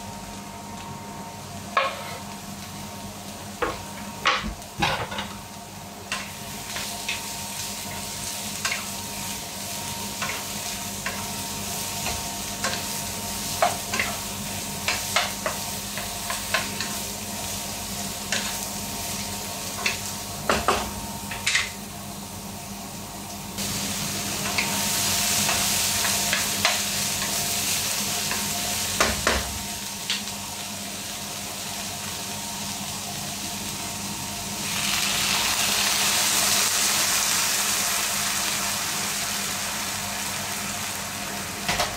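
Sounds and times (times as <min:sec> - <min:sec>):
food sizzling in a wok: 0:00.0 - 0:41.9.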